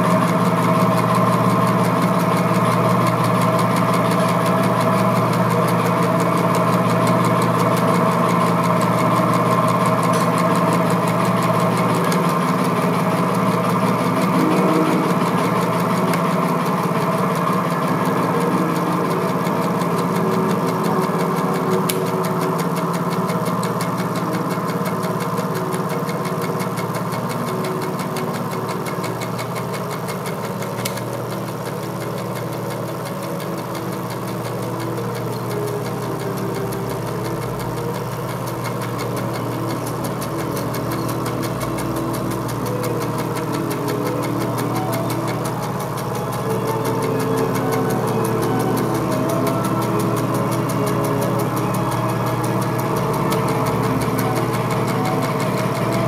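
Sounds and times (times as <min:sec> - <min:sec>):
mechanical drone: 0:00.0 - 0:56.0.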